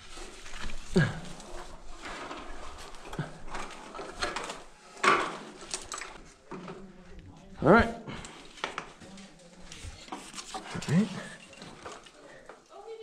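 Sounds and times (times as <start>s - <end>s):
rustling and scraping on ladder: 0.0s - 7.3s, 8.1s - 13.0s.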